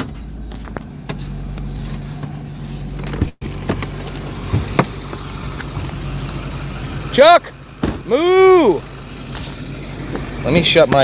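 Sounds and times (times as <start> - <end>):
truck engine low hum: 0.0 - 11.0.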